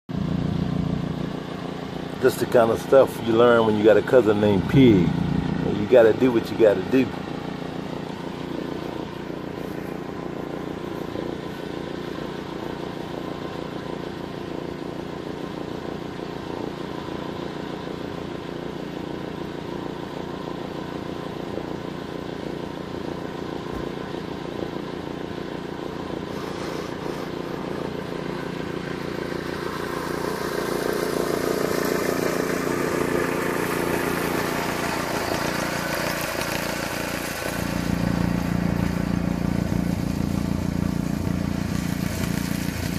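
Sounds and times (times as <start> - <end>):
pickup truck engine running: 0.1 - 42.9
tow-behind mower running: 0.1 - 42.9.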